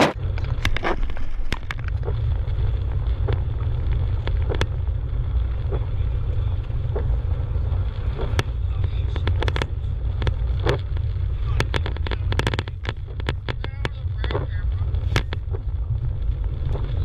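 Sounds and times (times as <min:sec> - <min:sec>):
engine and tyres rumbling: 0:00.0 - 0:17.0
sharp ticks of gravel: 0:00.0 - 0:17.0.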